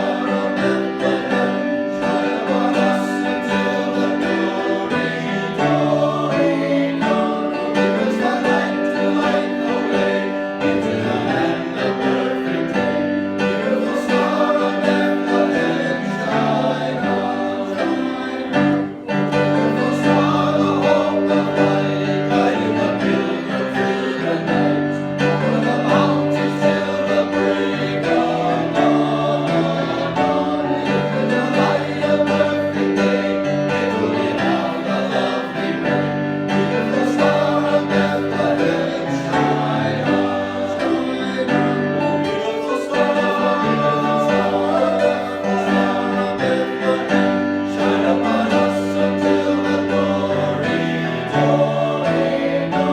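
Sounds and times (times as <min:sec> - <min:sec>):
church choir singing: 0:00.0 - 0:52.9
instrumental accompaniment: 0:00.0 - 0:52.9.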